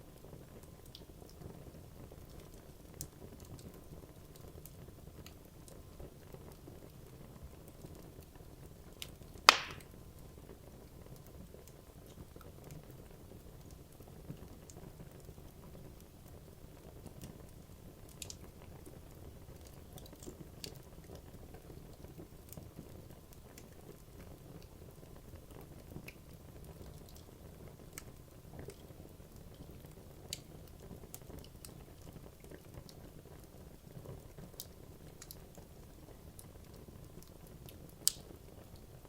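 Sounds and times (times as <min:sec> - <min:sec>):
wood fire burning: 0:00.0 - 0:39.0.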